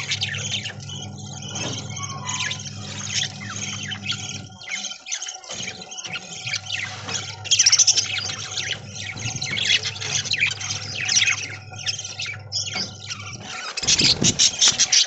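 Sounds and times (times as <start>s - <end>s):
steady low hum: 0.0s - 4.9s, 6.2s - 14.7s
budgerigars chattering and chirping: 0.0s - 15.0s.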